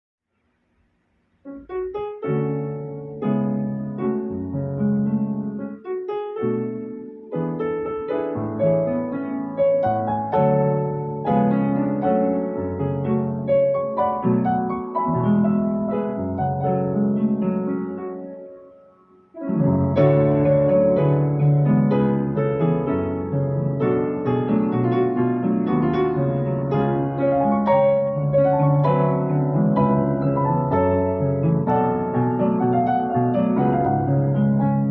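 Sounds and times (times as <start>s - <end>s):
solo piano melody over chords: 1.4s - 34.9s.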